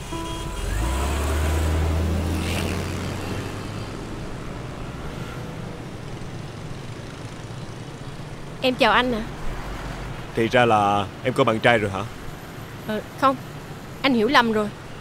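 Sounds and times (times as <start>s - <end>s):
car driving off: 0.0s - 12.6s.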